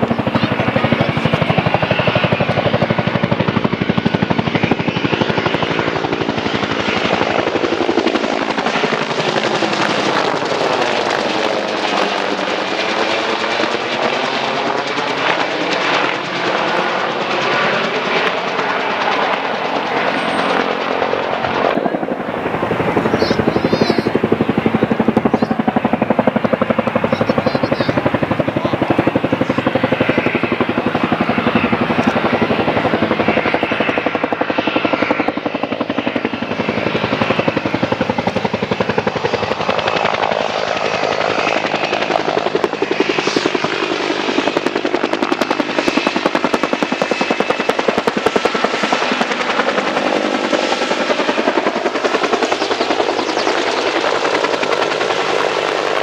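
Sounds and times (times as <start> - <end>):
helicopter engine noise: 0.0 - 56.0
helicopter rotor blades beating: 0.0 - 56.0.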